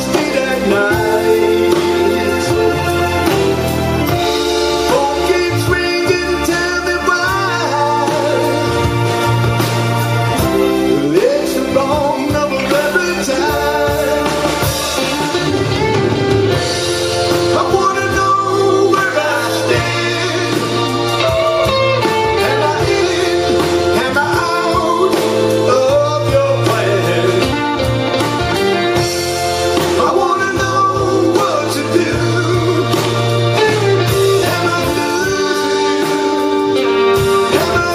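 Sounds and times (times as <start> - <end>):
blues band playing live: 0.0 - 37.9
electric guitar: 0.0 - 37.9
sustained bass line: 0.0 - 37.9.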